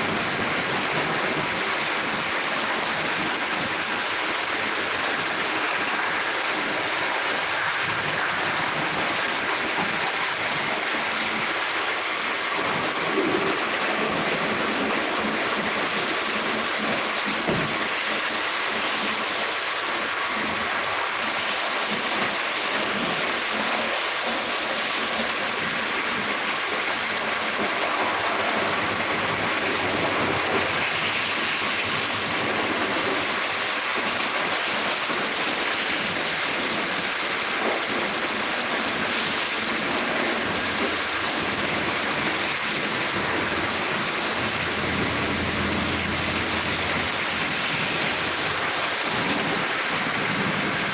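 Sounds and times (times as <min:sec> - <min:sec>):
car wash equipment rushing hiss: 0:00.0 - 0:50.9.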